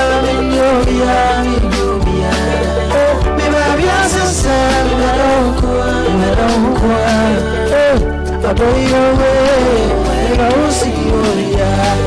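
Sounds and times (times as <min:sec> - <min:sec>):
person singing: 0:00.0 - 0:12.0
steady bass line: 0:00.0 - 0:12.0.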